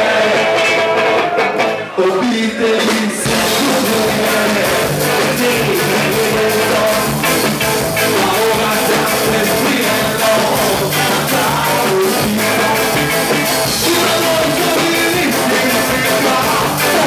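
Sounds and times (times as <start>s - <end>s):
man singing: 0.0s - 17.0s
punk rock band playing: 0.0s - 17.0s.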